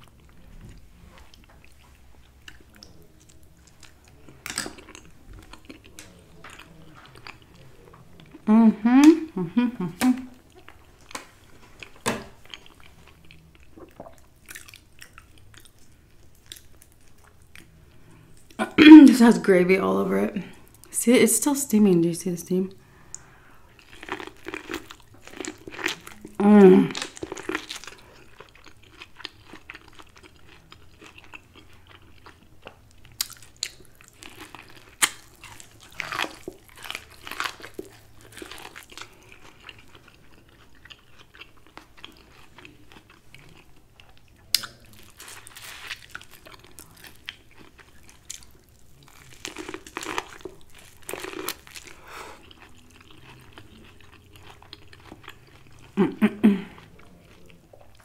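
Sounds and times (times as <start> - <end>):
person chewing corn: 0.0 - 18.6, 22.9 - 58.0.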